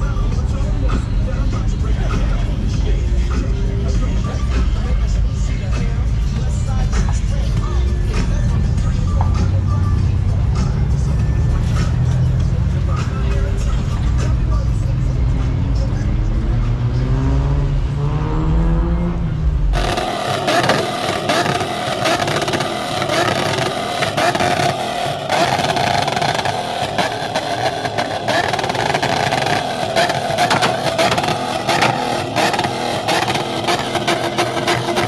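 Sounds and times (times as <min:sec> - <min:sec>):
loud car engine running: 0:00.0 - 0:35.0.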